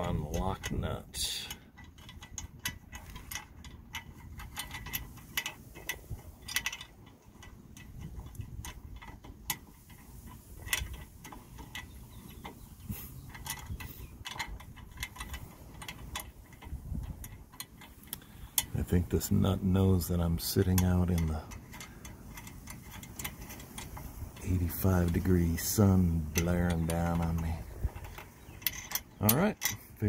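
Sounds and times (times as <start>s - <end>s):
light metallic clicks: 0.0s - 30.0s.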